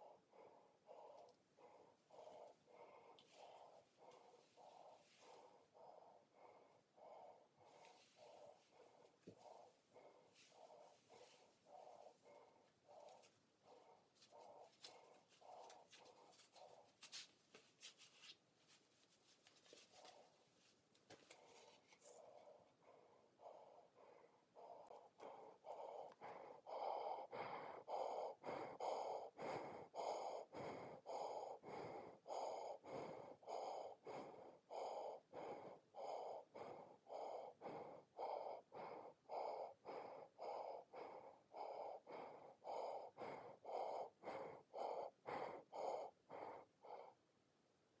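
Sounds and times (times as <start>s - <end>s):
fast breathing through gas mask: 0.0s - 17.3s, 19.7s - 47.2s.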